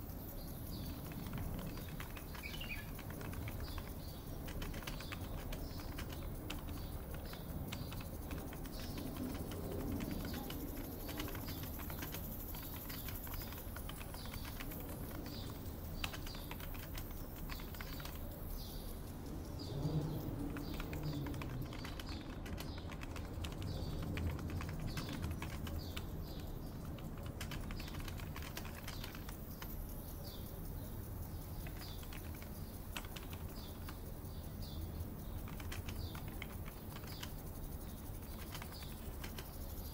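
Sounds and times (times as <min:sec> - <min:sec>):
birds chirping: 0:00.0 - 0:39.9
computer keyboard typing: 0:00.0 - 0:39.9
low background rumble: 0:00.0 - 0:39.9.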